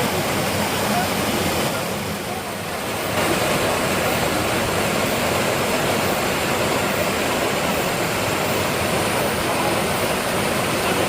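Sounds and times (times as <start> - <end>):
waterfall pouring: 0.0 - 11.0.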